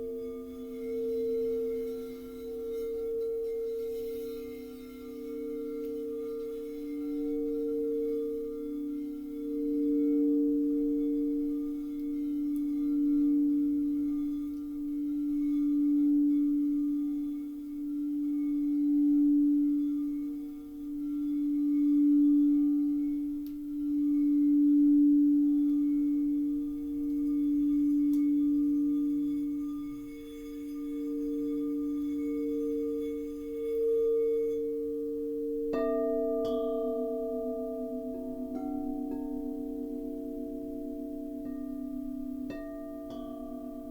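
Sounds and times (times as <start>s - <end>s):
singing bowl low ringing tone: 0.0s - 43.9s
singing bowl struck high ringing: 0.0s - 43.9s.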